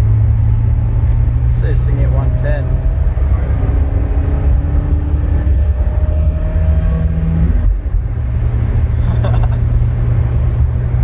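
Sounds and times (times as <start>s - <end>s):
car engine drone at high revs: 0.0s - 11.0s
road noise: 0.0s - 11.0s.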